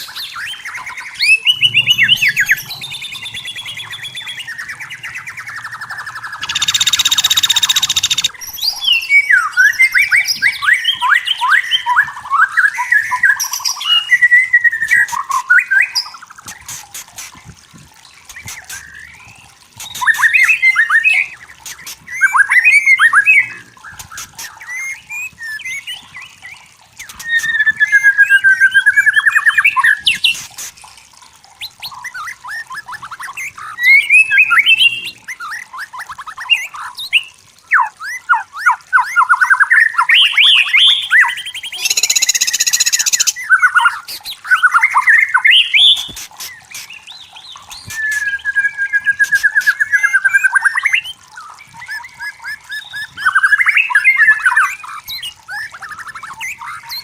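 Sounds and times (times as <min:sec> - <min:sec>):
bird singing whistles and trills: 0:00.0 - 0:16.3, 0:18.4 - 0:30.4, 0:31.6 - 0:57.0.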